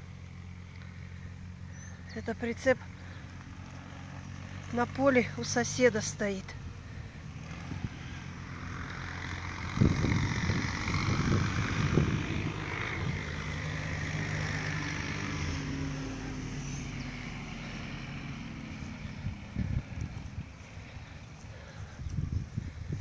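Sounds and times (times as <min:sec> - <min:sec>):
distant engine drone: 0:00.0 - 0:23.0.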